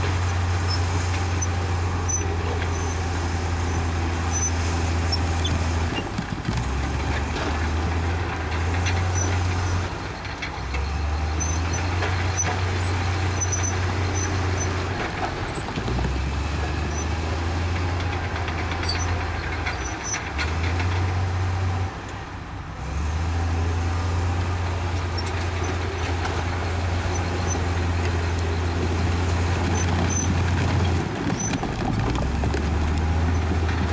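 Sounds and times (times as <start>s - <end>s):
bulldozer diesel engine droning: 0.0s - 33.9s.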